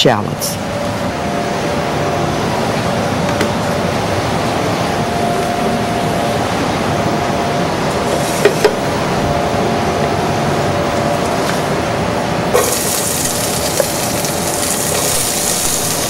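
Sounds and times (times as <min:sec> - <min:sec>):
faint hum: 0:00.0 - 0:16.0
kitchen ventilation whoosh: 0:00.6 - 0:16.0.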